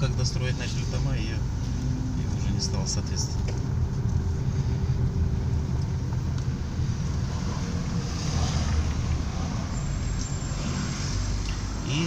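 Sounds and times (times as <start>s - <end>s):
car engine rumble: 0.0s - 12.0s
tyre road noise: 0.0s - 12.0s.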